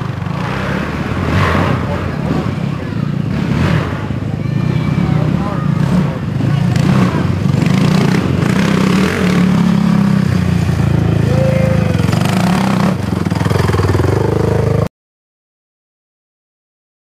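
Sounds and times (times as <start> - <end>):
quad engine running loudly: 0.0 - 14.9.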